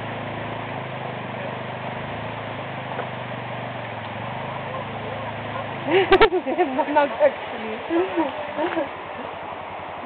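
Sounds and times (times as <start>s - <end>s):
quad bike engine idling: 0.0s - 10.0s.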